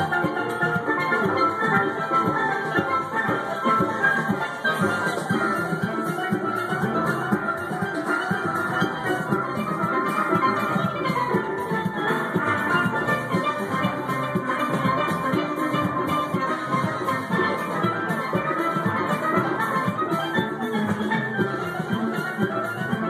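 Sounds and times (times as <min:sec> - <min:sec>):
percussion beat: 0:00.0 - 0:23.0
steel pan band playing: 0:00.0 - 0:23.0.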